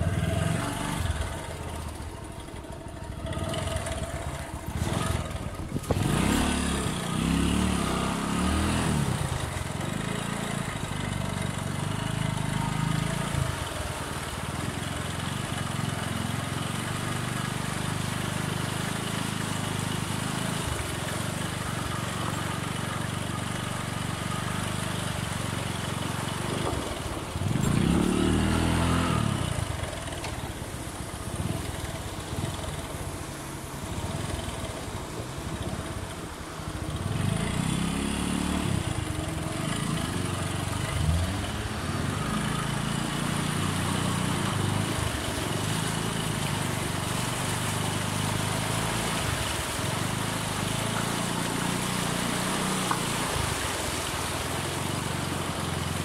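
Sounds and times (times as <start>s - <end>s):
motorcycle engine revving: 0.0s - 33.1s, 35.6s - 53.8s.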